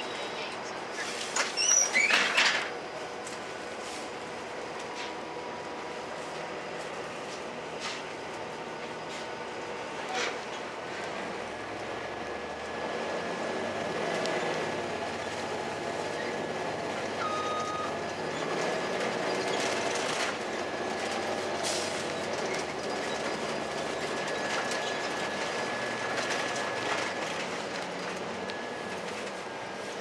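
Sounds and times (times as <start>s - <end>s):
bus road rumble: 0.0s - 30.0s.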